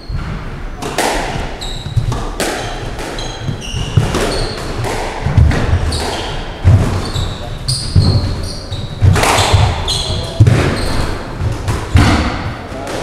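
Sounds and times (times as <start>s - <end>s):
squash ball cracking off rackets: 0.8s - 13.0s
shoes squeaking on wooden floor: 1.4s - 12.0s.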